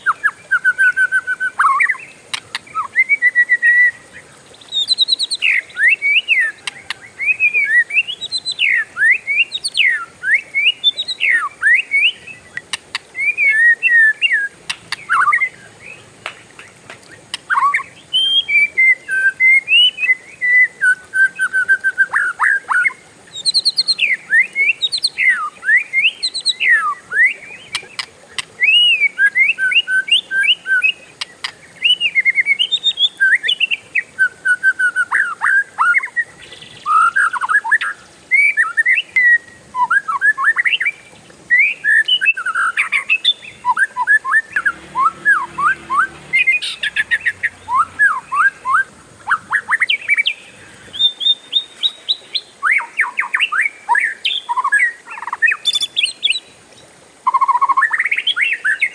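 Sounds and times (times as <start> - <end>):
bird singing whistled song: 0.0 - 16.0, 17.0 - 56.5, 57.2 - 58.9.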